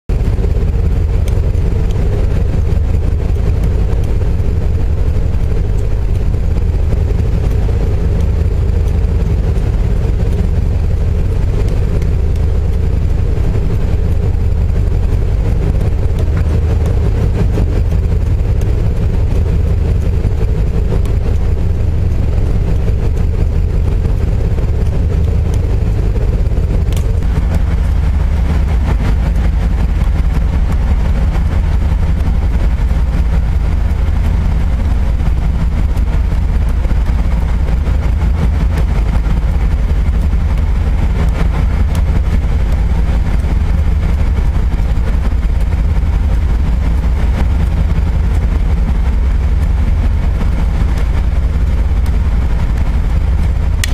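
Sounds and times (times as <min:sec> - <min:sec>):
faint steady hum: 0:00.1 - 0:53.9
ship engines droning: 0:00.1 - 0:53.9.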